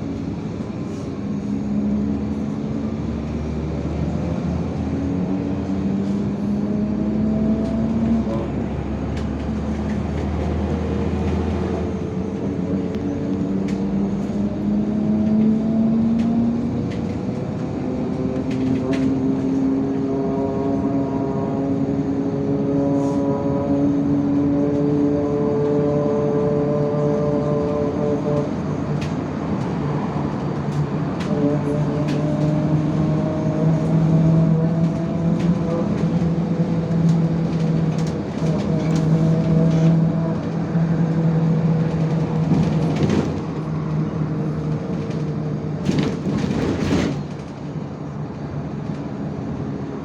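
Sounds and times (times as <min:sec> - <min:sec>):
bus engine running: 0:00.0 - 0:50.0
road noise: 0:00.0 - 0:50.0.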